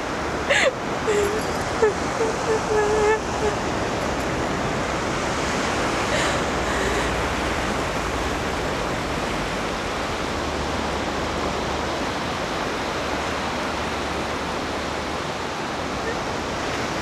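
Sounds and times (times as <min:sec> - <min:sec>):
sea surf on sandy beach: 0:00.0 - 0:17.0.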